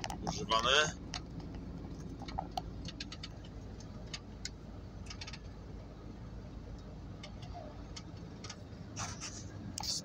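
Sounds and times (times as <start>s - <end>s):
van cab rumble: 0.0s - 10.0s.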